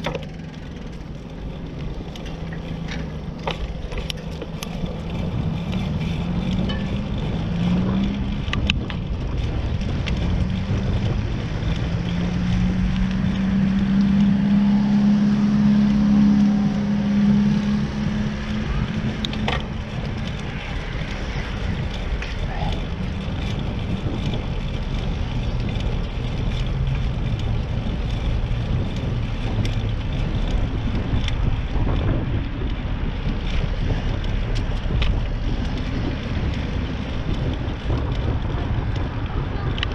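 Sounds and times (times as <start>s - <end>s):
passing vehicle hum: 0.0s - 39.9s
road noise: 0.0s - 39.9s
wind rumbling on microphone: 0.0s - 39.9s.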